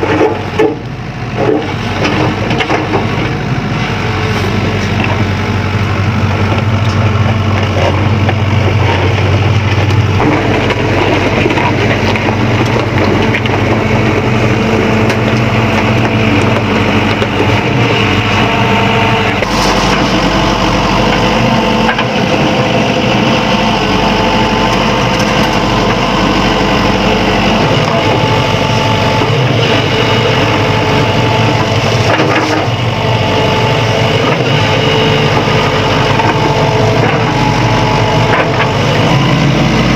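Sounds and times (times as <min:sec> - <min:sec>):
excavator diesel engine: 0:00.0 - 0:39.9
gravel grinding against bucket: 0:06.6 - 0:39.9.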